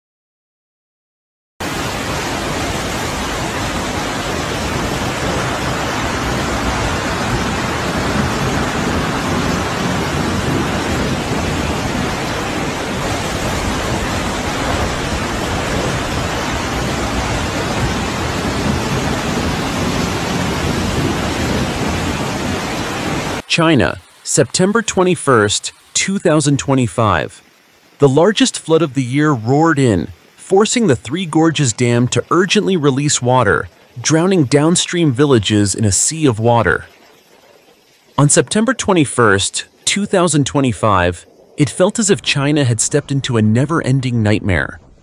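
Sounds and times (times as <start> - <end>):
heavy rain pouring: 1.6 - 43.4
rushing floodwater: 1.6 - 45.0.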